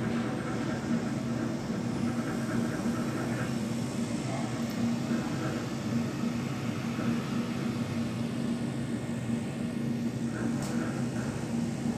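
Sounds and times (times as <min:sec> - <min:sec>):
elevator low hum: 0:00.0 - 0:11.9.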